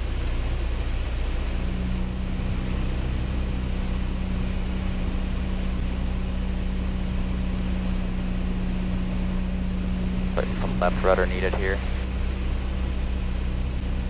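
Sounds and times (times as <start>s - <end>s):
aircraft engine droning in cabin: 0.0s - 14.0s
steady low tone: 0.0s - 14.0s.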